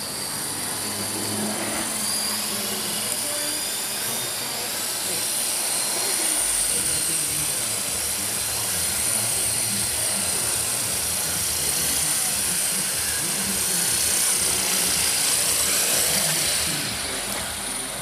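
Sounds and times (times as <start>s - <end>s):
high-pitched motor whine: 0.0s - 18.0s
rotor blades rushing: 0.0s - 18.0s.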